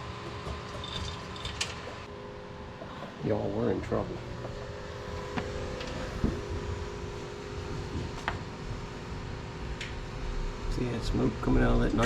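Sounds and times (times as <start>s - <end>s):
stove blower motor hum: 0.0s - 12.0s.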